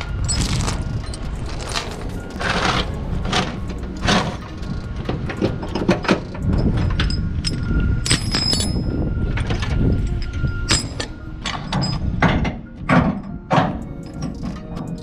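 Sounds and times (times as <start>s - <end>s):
low rumble: 0.0s - 14.8s
metal chains clanking and rattling: 0.0s - 15.0s.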